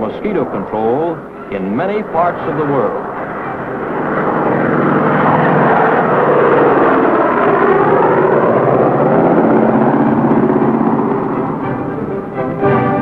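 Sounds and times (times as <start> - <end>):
propeller plane engine flying past: 0.0 - 13.0.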